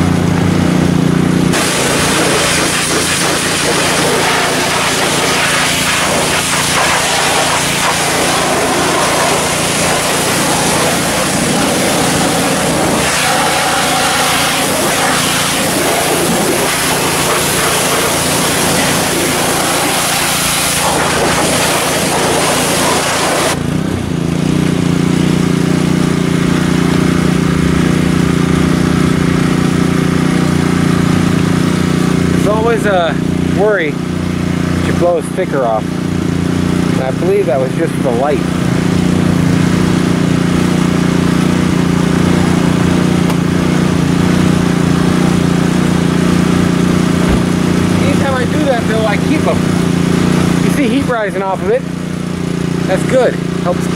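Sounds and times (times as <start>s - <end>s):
pressure washer spraying water: 0.0s - 53.9s
small motor running: 0.0s - 53.9s.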